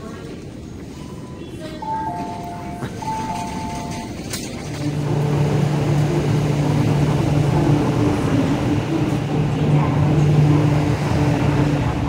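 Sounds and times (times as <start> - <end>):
electric train humming: 0.5 - 12.0.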